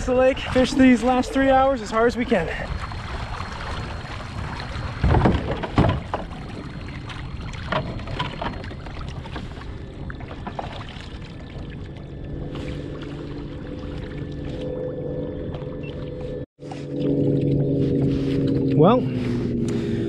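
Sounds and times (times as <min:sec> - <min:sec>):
low steady hum: 0:00.0 - 0:20.0
water washing along kayak hull: 0:00.0 - 0:20.0.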